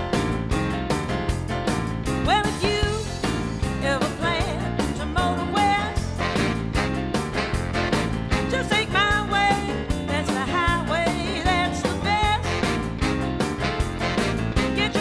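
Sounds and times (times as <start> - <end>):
upbeat music with drum beat: 0.0 - 15.0.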